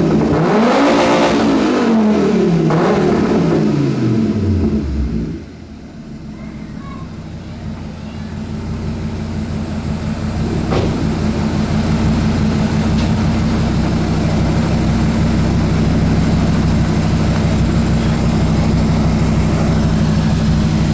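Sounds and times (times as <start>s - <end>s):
car engine running steadily: 0.0s - 20.9s.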